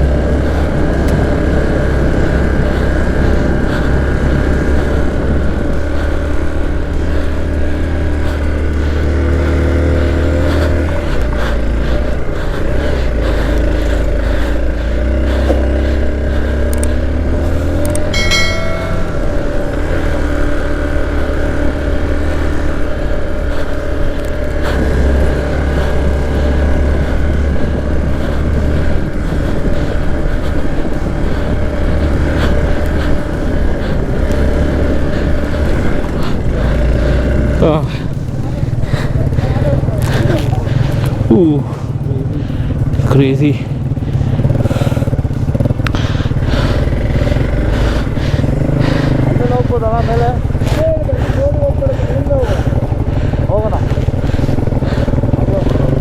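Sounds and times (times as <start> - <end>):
vehicle engine over rough ground: 0.0 - 56.0.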